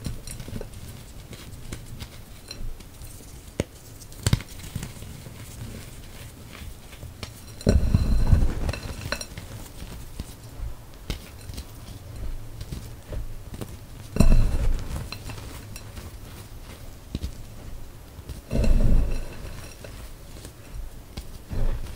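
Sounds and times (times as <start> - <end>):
hands crushing chalk in a bowl: 0.0 - 21.9.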